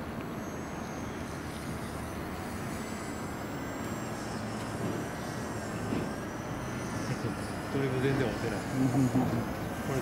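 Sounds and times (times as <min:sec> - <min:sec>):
rc airplane motor whining: 0:00.0 - 0:10.0.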